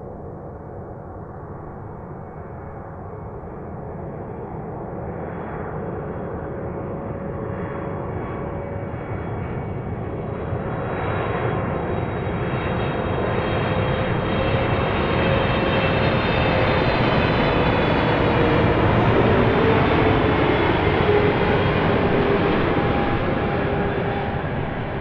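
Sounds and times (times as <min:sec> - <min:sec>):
airplane engines rumbling: 0:00.0 - 0:25.0.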